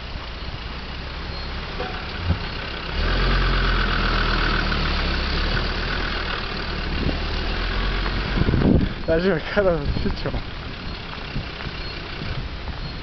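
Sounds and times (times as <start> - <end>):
car engine at low revs: 0.0 - 13.0.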